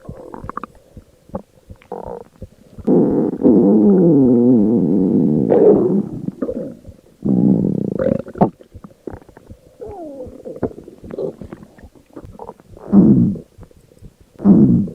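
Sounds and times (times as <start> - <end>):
stomach growling: 0.0 - 14.9
stomach gurgles and pops: 0.0 - 14.9.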